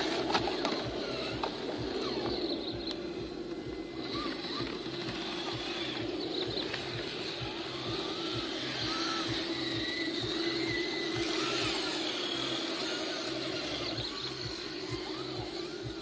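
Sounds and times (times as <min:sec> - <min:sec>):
electric motor and gearbox whining: 0:00.0 - 0:16.0.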